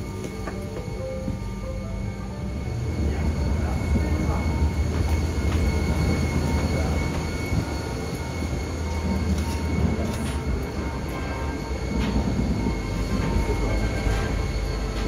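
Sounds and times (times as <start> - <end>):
machinery rumble: 0.0 - 15.0
thin high whine: 0.0 - 15.0.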